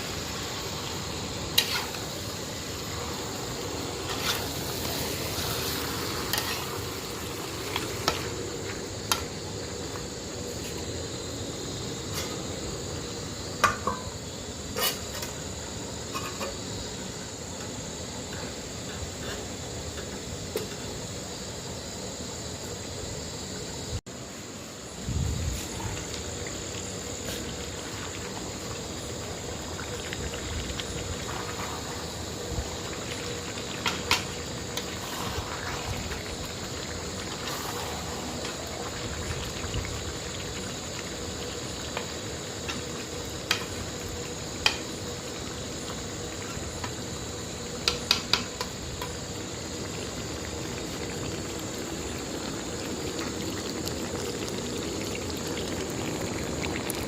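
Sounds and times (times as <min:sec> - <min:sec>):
curry bubbling in a pot: 0:00.0 - 0:22.5, 0:24.8 - 0:57.0.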